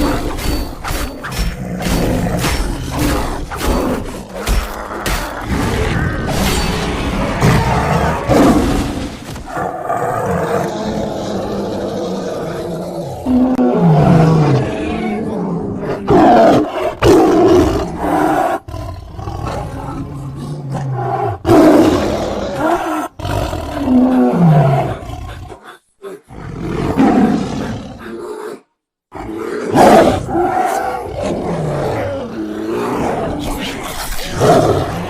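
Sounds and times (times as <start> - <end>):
cartoon bear roars and growls: 0.0 - 35.0.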